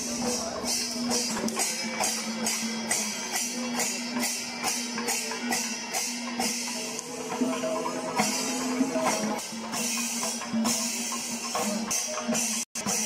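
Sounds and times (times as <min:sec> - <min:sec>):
brass cymbals clashing: 0:00.0 - 0:13.0
drum strokes: 0:00.0 - 0:13.0.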